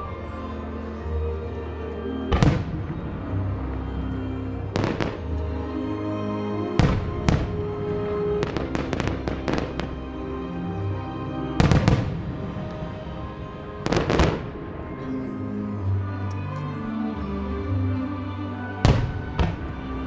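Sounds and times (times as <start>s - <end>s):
music playing: 0.0s - 20.0s.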